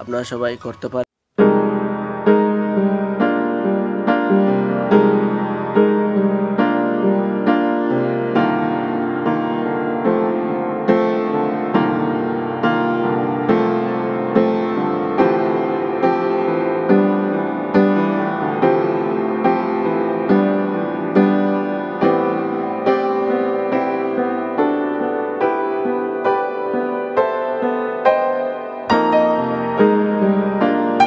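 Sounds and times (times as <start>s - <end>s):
soft piano chords: 1.4s - 31.0s.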